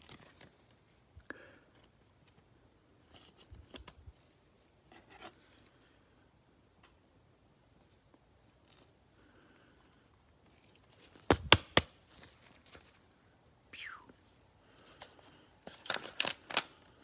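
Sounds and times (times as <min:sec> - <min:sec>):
faint clicks and rustles of cards: 0:00.0 - 0:17.0.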